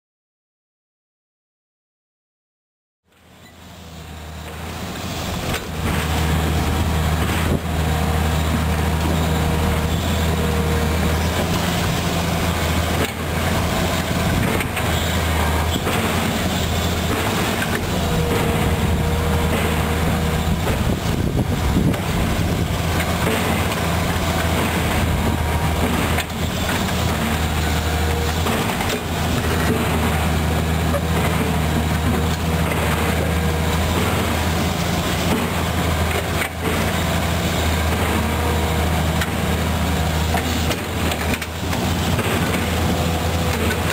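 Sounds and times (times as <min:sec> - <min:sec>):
diesel engines droning: 0:03.1 - 0:43.9.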